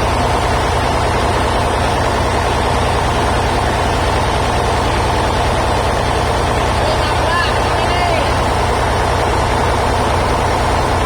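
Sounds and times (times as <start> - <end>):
sawmill machinery droning: 0.0 - 11.0.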